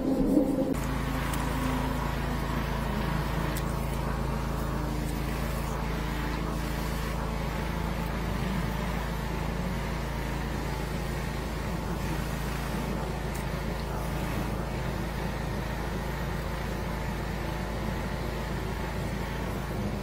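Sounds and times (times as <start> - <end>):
engine low drone: 0.0 - 20.0.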